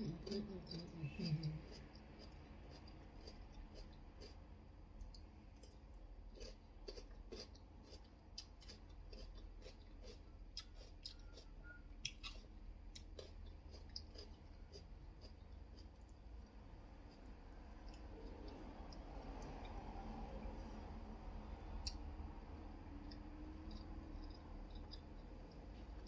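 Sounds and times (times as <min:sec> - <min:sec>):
person chewing food: 0:00.0 - 0:20.9, 0:21.5 - 0:26.0
low steady hum: 0:00.0 - 0:26.0.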